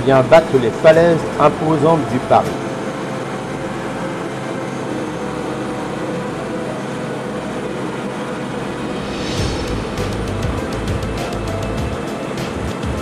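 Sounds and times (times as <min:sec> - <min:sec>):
helicopter flying: 0:00.0 - 0:13.0.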